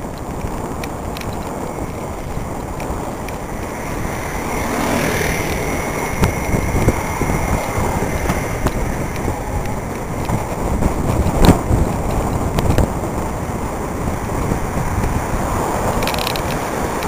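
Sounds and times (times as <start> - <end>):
motor scooter passing: 0.0 - 17.0
road rumble: 0.0 - 17.0
wind buffeting microphone: 0.0 - 17.0.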